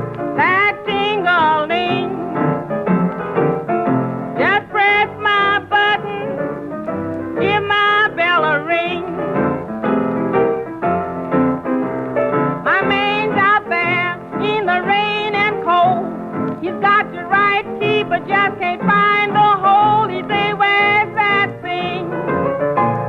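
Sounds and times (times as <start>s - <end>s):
old blues band with piano: 0.0s - 23.0s.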